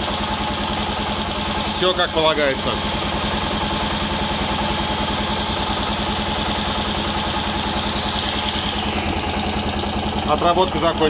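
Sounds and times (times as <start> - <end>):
electric radiator fan running: 0.0 - 11.0
engine idling: 0.0 - 11.0.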